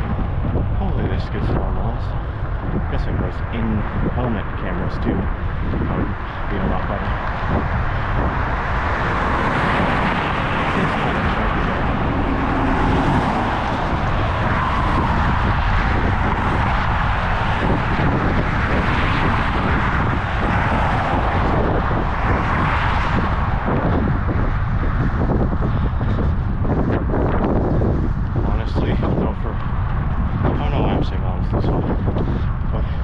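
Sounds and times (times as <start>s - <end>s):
low rumble from bicycle ride: 0.0s - 33.0s
wind rushing over microphone: 0.0s - 33.0s.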